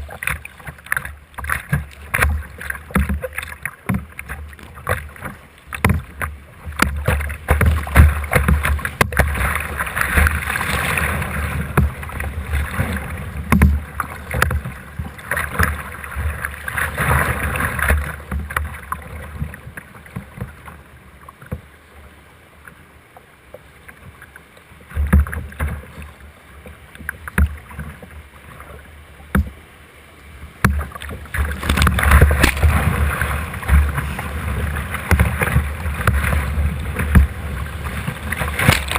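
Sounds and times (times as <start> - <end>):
paddle splashes: 0.0 - 38.9
rushing whitewater: 0.0 - 38.9.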